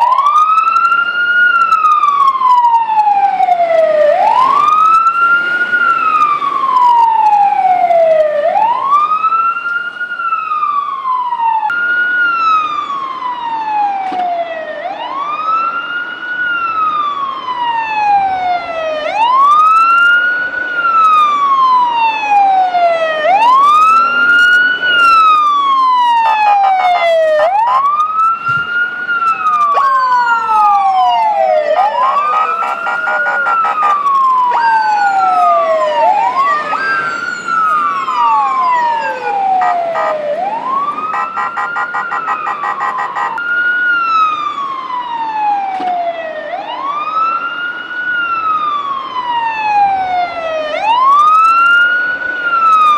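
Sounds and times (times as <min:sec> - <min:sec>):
fire truck siren wailing: 0:00.0 - 0:52.9.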